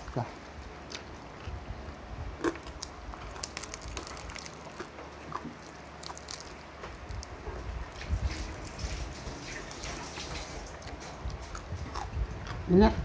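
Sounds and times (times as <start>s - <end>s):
chewing crispy pork skin: 0.0s - 12.7s.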